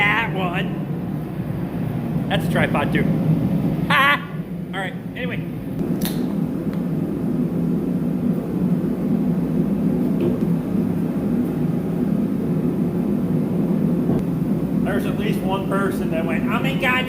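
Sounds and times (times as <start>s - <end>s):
heater fan and burner rushing: 0.0s - 17.0s.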